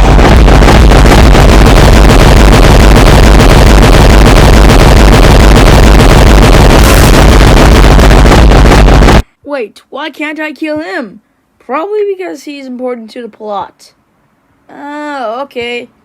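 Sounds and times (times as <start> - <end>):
distorted noise with low rumble: 0.0 - 16.0.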